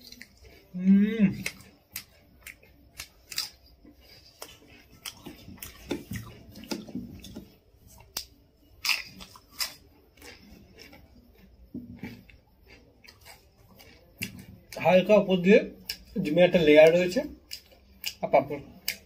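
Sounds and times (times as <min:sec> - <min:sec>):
crisp food crunching: 0:00.0 - 0:19.0.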